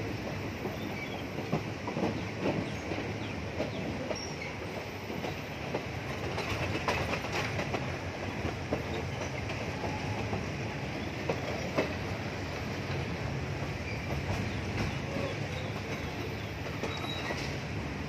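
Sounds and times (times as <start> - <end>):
train wheels clicking over rails: 0.0 - 18.0.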